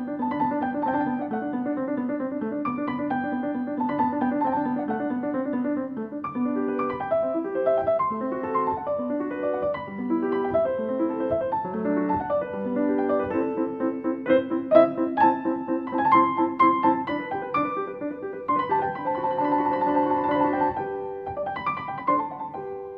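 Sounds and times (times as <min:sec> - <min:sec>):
piano music: 0:00.0 - 0:22.9.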